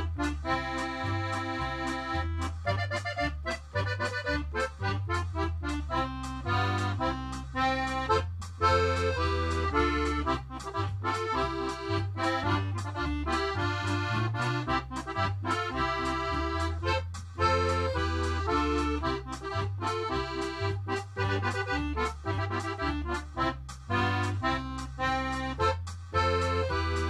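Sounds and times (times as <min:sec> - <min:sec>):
instrumental music with beat: 0:00.0 - 0:27.0.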